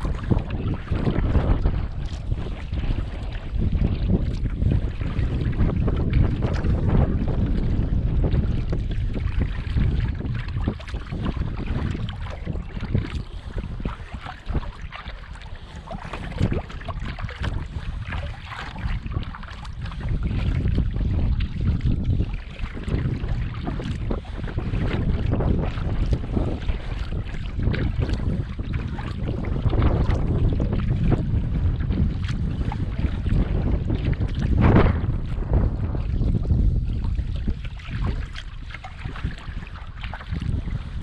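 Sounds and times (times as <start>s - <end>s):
water splashing against boat: 0.0s - 41.0s
wind rumbling on microphone: 0.0s - 41.0s.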